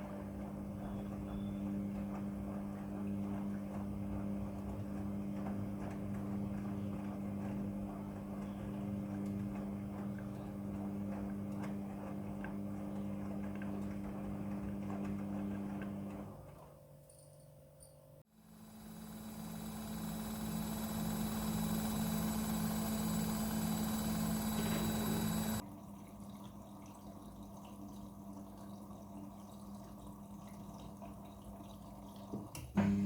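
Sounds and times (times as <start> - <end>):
washing machine motor humming: 0.0 - 16.8, 18.4 - 33.0.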